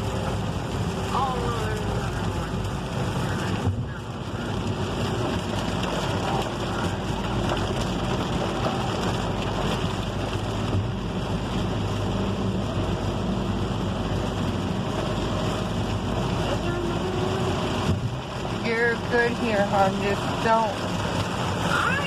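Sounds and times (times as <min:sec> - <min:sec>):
heavy rain: 0:00.0 - 0:22.0
tyres on wet road: 0:00.0 - 0:22.0.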